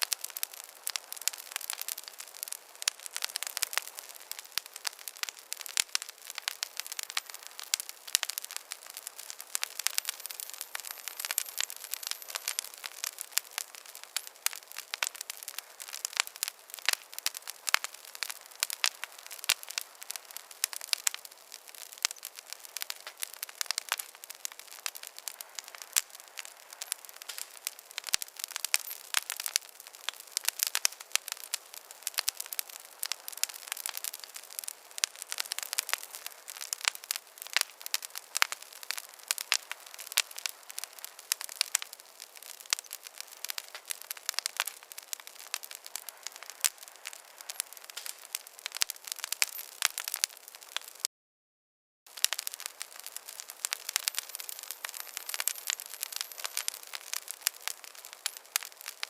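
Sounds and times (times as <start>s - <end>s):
campfire crackling: 0.0s - 51.1s, 52.1s - 59.0s.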